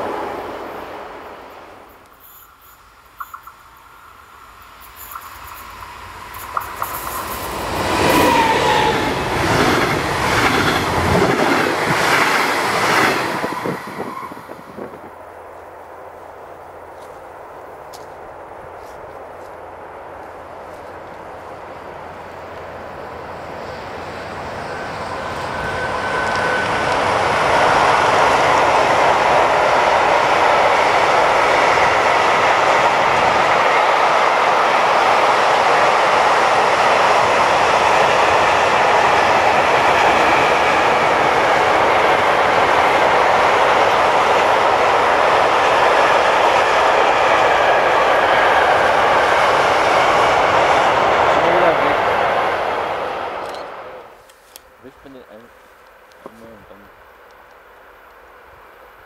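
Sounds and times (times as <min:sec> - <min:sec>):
freight train wheels rumbling: 0:00.0 - 0:54.2.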